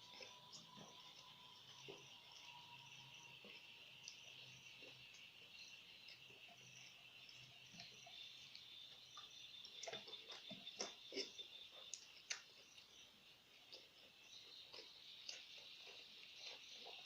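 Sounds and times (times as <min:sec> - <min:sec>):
crickets chirring: 0:00.0 - 0:17.0
person chewing wetly: 0:00.0 - 0:17.0.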